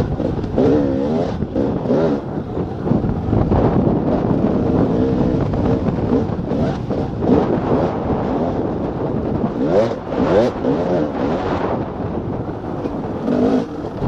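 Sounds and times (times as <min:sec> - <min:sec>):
two-stroke motorcycle engine revving: 0:00.0 - 0:14.0
wind buffeting microphone: 0:00.0 - 0:14.0.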